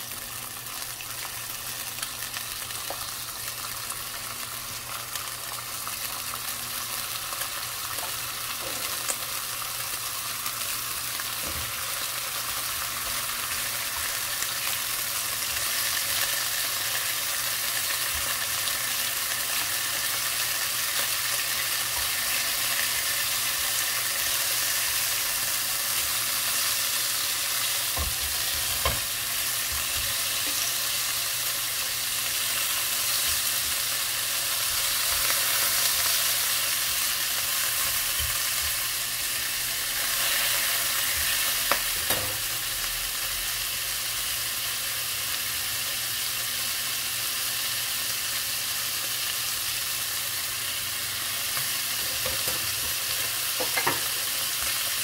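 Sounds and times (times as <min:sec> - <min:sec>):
food sizzling in a pan: 0:00.0 - 0:55.0.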